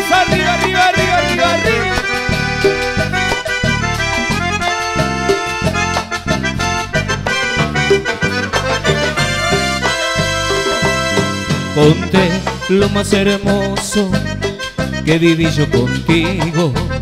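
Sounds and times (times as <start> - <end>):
live band playing latin dance music: 0.0 - 17.0.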